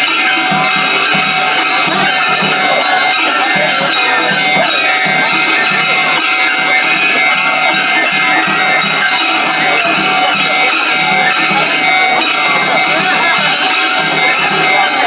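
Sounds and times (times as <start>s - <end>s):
street festival music: 0.0s - 15.0s.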